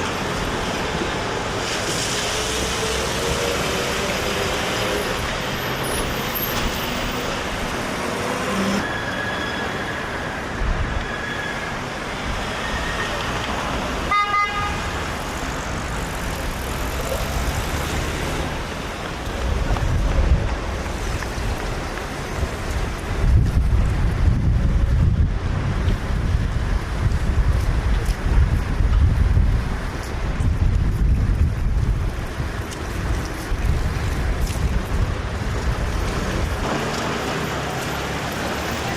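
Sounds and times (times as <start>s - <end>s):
city street traffic: 0.0s - 38.9s.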